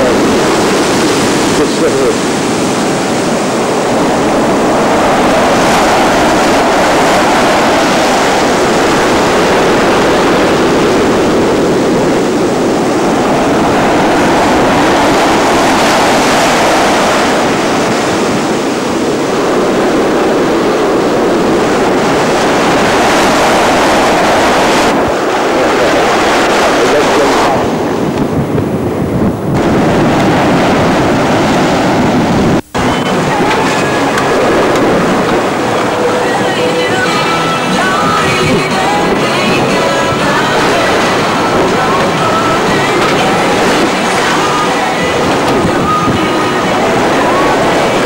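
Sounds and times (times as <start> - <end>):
sea surf breaking: 0.0 - 48.0.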